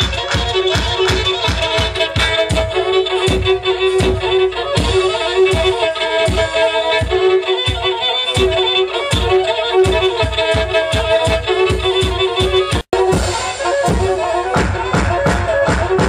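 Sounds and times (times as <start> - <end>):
bowed fiddle dance tune: 0.0 - 16.0
steady low beat: 0.0 - 16.0.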